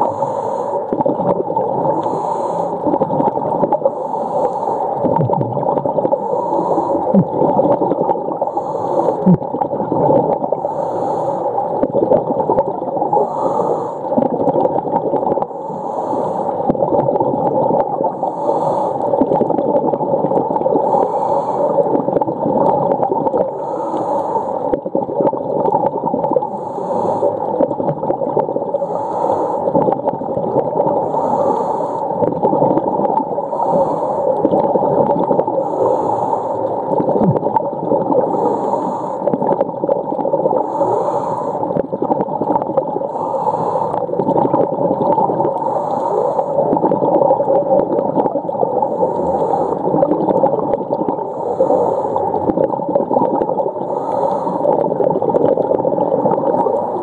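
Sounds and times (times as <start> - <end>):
underwater water noise: 0.0 - 57.0.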